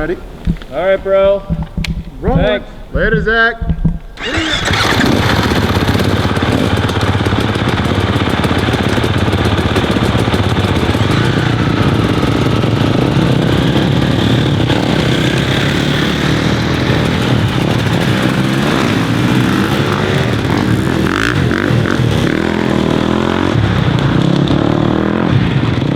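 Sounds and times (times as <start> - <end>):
dirt bike engine revving: 4.2 - 25.9.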